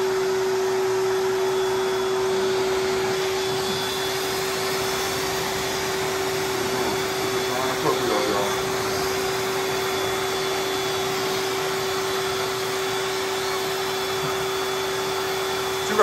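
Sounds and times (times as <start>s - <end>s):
dog grooming dryer blowing air: 0.0s - 16.0s.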